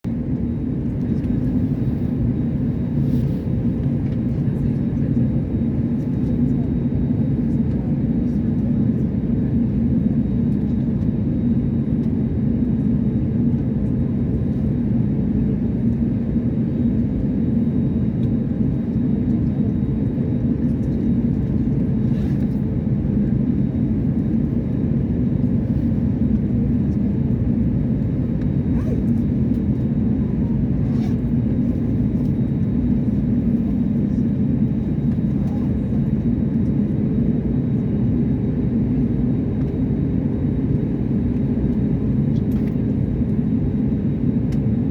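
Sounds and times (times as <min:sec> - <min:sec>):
jet engine cabin rumble: 0:00.1 - 0:44.9.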